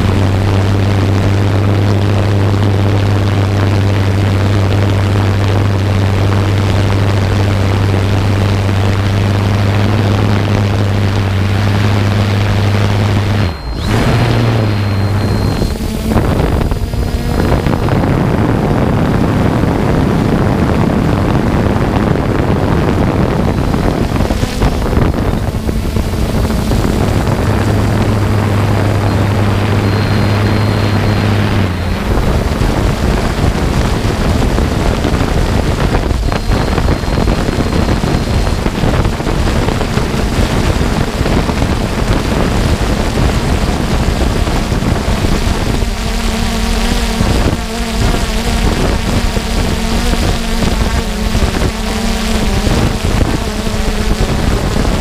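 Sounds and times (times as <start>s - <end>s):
drone motors and propellers running: 0.0s - 55.0s
wind buffeting microphone: 0.0s - 55.0s.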